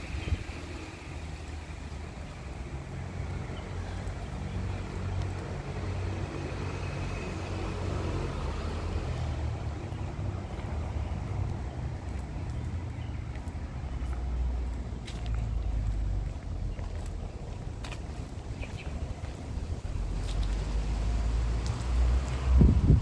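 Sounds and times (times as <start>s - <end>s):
diesel locomotive rumbling: 0.0s - 23.0s.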